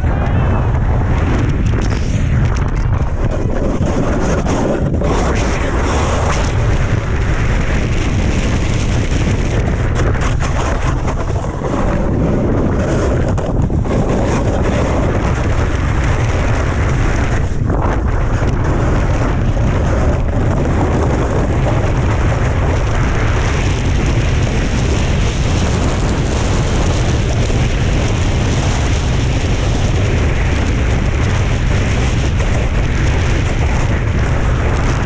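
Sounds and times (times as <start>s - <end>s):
wind rumble on microphone: 0.0s - 35.0s
snowboard scraping on snow: 1.7s - 30.3s.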